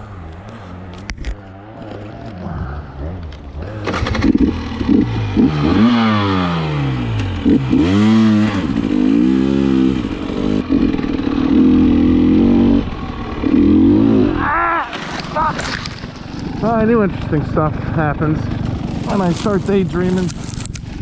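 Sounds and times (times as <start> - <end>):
dirt bike engine revving: 0.0 - 20.5.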